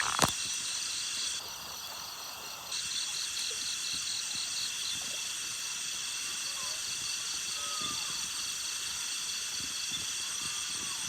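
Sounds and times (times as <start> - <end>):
crickets and insects trilling: 0.0 - 11.0
insect pulsing chirp: 0.0 - 11.0.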